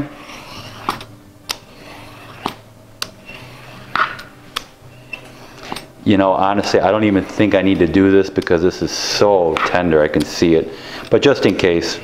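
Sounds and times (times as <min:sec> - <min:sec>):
peeler scraping: 0:00.0 - 0:12.0.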